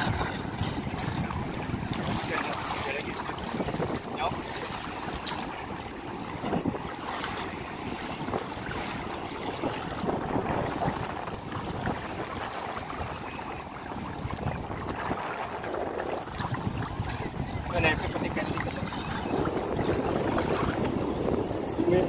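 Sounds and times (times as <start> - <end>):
small waves lapping: 0.0 - 22.0
wind buffeting microphone: 0.0 - 22.0.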